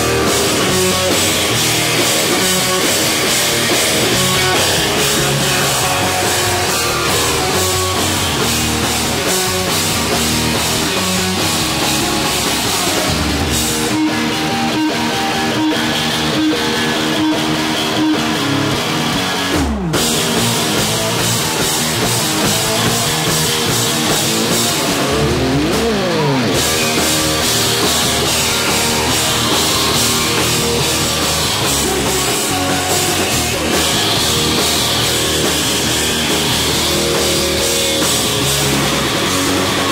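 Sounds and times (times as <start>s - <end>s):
bass guitar: 0.0s - 39.9s
distorted electric guitar: 0.0s - 39.9s
drum kit: 0.0s - 39.9s.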